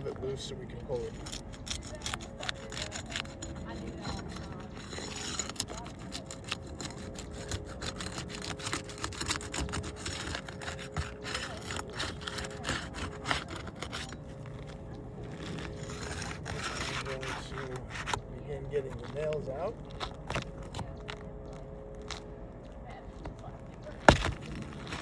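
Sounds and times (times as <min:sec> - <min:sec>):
shingle scraping and clicking: 0:00.0 - 0:22.3, 0:23.2 - 0:25.0.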